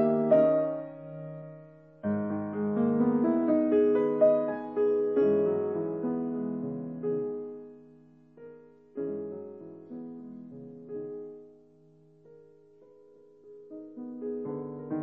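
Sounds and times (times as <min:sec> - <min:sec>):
slow soft piano music: 0:00.0 - 0:15.0.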